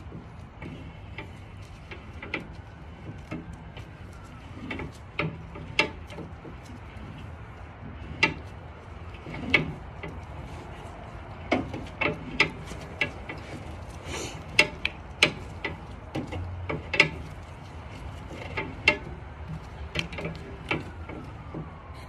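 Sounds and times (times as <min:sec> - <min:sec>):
tire hoist clicks and knocks: 0:00.0 - 0:22.0.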